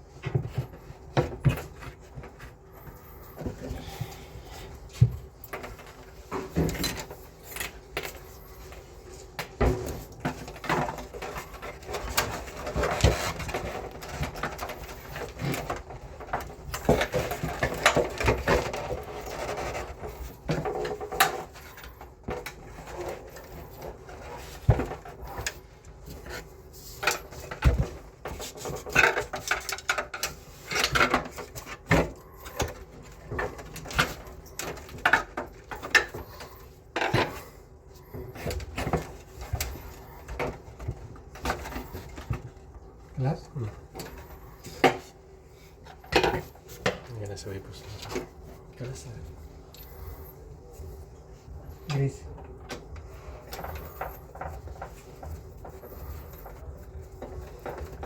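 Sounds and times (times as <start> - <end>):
parts and tools clicking and rattling: 0.0 - 58.0.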